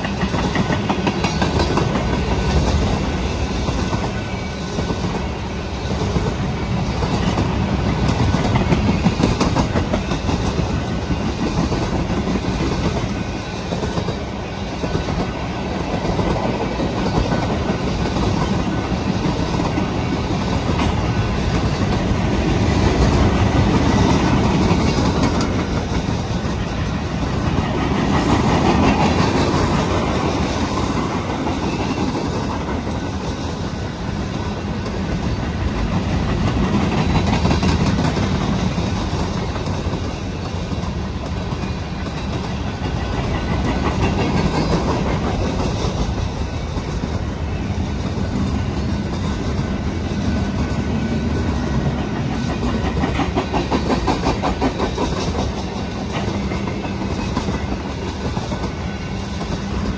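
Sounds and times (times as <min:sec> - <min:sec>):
freight train rolling past: 0:00.0 - 0:59.9
steel wheels clattering on rails: 0:00.0 - 0:59.9.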